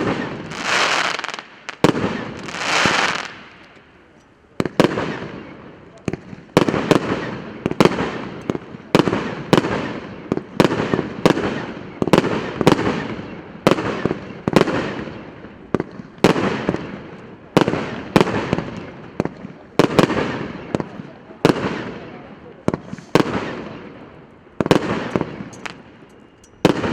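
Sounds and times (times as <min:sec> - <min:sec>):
firework bangs with echo: 0:00.0 - 0:03.6, 0:04.6 - 0:26.0, 0:26.6 - 0:26.9.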